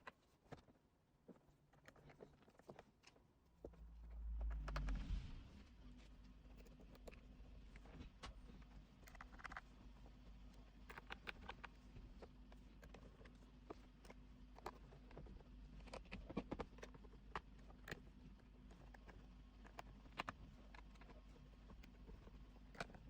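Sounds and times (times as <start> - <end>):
low steady hum: 3.4 - 23.0.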